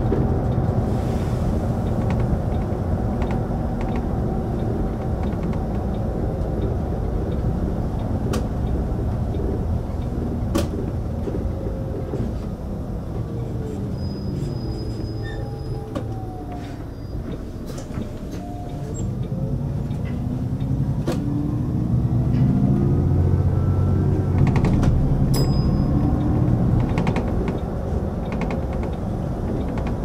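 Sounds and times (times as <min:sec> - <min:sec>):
bus engine accelerating: 0:00.0 - 0:30.0.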